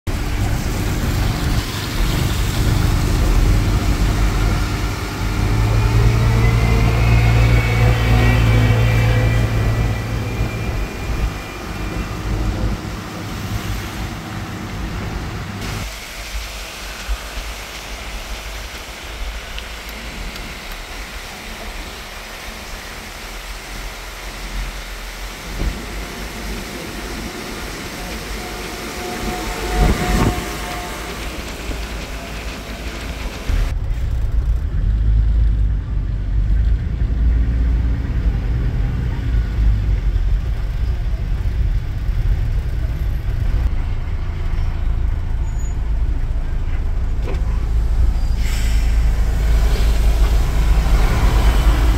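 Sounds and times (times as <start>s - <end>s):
vehicle on wet road: 0.1s - 14.8s, 15.6s - 51.9s.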